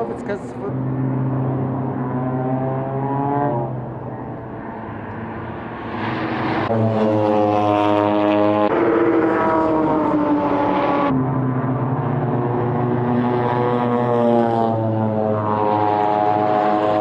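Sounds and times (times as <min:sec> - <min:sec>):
race car engines accelerating: 0:00.0 - 0:17.0.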